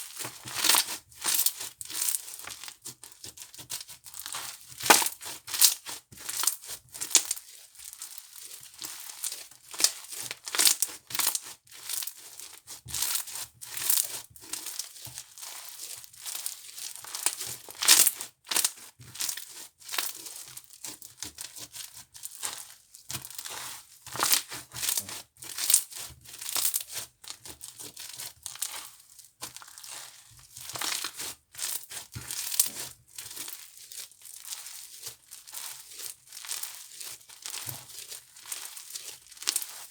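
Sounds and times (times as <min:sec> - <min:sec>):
slime crinkling crackles: 0:00.1 - 0:39.9.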